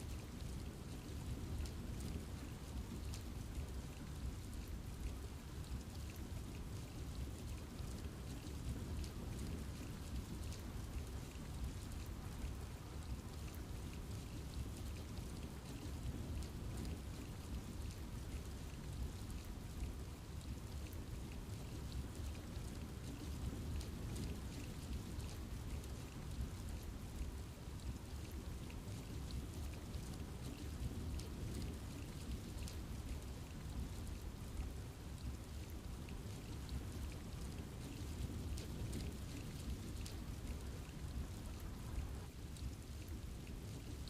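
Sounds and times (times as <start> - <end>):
low rumble of rain: 0.0 - 44.0.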